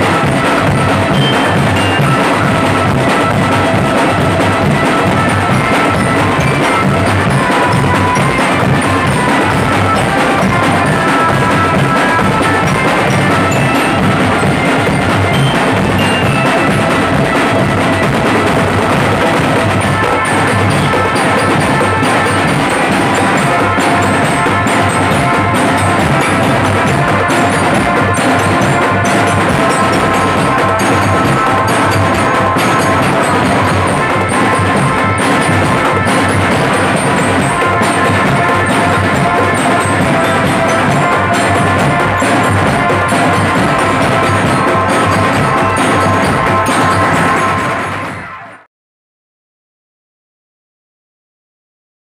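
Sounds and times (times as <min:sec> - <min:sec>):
bass drums and snare drums beating: 0:00.0 - 0:48.4
melodic instruments holding notes: 0:00.0 - 0:48.4.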